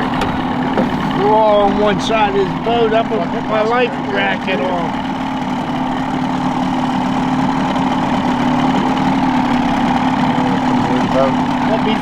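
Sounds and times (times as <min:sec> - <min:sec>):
outboard boat motor idling: 0:00.0 - 0:12.0.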